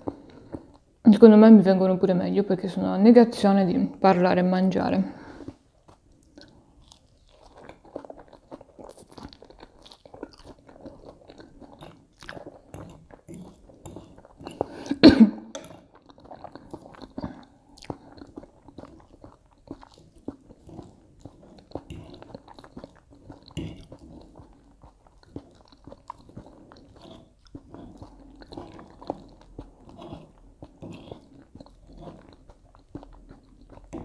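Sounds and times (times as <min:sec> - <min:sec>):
person chewing and biting food: 0:00.0 - 0:00.9, 0:05.4 - 0:34.0.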